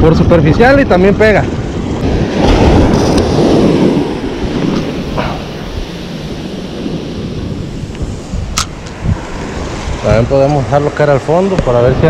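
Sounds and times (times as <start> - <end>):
surf washing up beach: 0.0 - 12.0
wind rumbling on microphone: 0.0 - 12.0.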